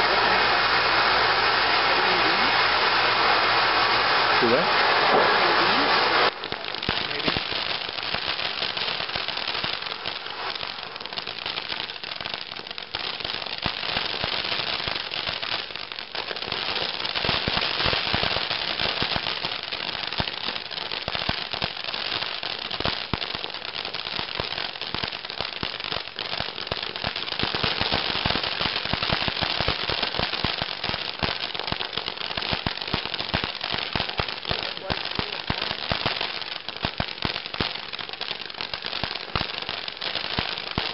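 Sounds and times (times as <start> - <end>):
firework fountain crackling hiss: 0.0 - 40.9.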